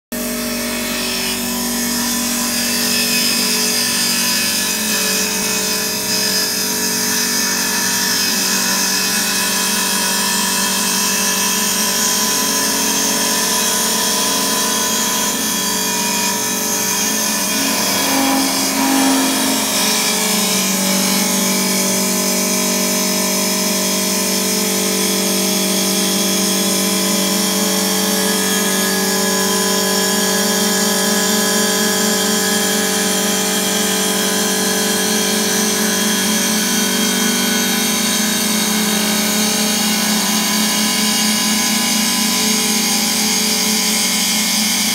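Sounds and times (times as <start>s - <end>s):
wood lathe running: 0.2s - 44.9s.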